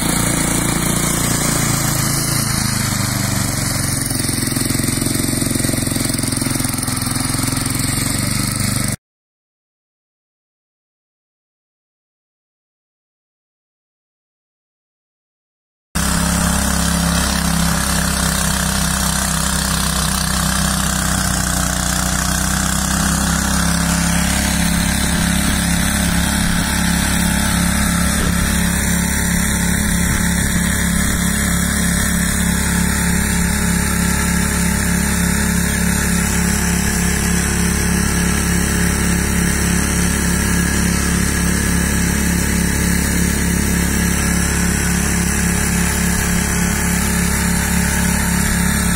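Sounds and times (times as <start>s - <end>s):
model mower engine running: 0.0s - 9.0s, 16.0s - 48.9s.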